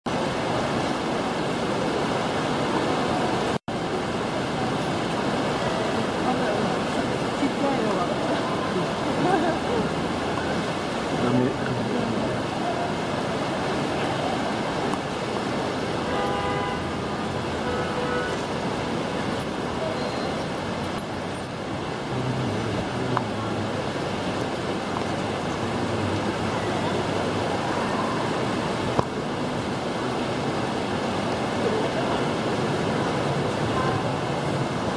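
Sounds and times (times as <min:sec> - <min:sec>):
heavy rain falling: 0:00.1 - 0:34.9
vehicle engine rumble: 0:04.2 - 0:34.9.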